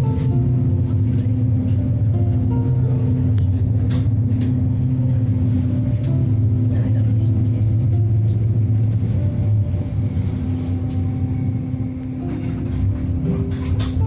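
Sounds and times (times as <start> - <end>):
train rumbling inside carriage: 0.0 - 14.0.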